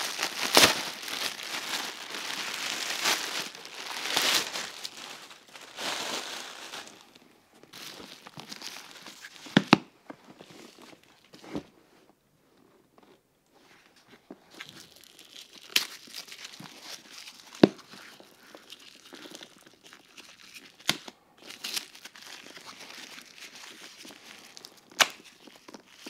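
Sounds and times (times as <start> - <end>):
packaging crinkling and tearing: 0.0 - 9.8, 14.5 - 26.0.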